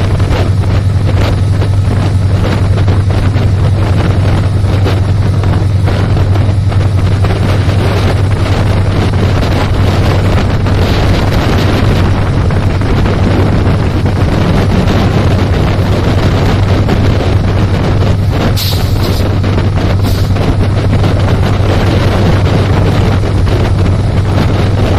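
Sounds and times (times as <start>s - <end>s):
train rumbling past: 0.0s - 24.9s
wind buffeting microphone: 0.0s - 24.9s.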